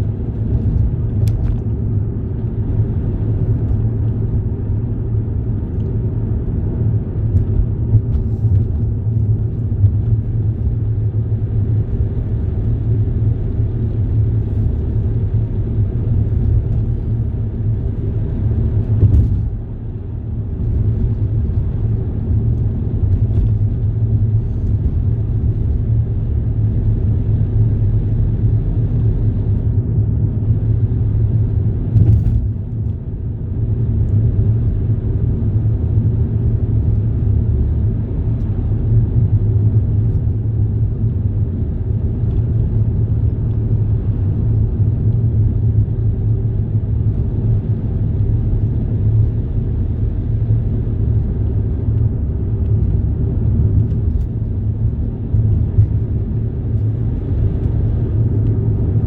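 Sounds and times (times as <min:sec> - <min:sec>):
vehicle rumbling in motion: 0:00.0 - 0:59.0.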